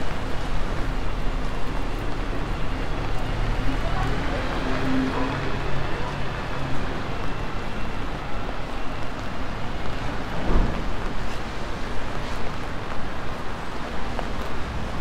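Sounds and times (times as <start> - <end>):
rain: 0.0 - 15.0
traffic: 0.0 - 15.0.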